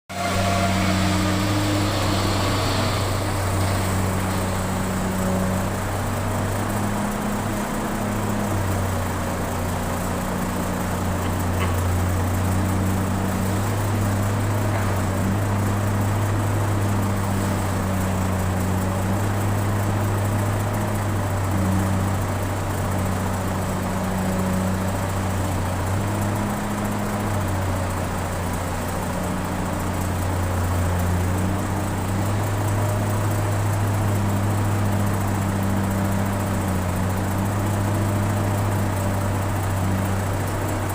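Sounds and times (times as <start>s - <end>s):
excavator diesel engine droning: 0.1s - 40.9s.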